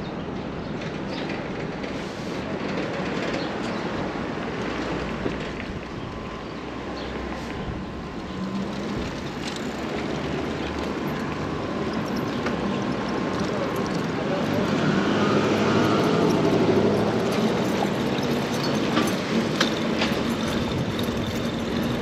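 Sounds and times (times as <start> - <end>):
street traffic: 0.0 - 22.0
streetcar rumbling: 0.0 - 22.0.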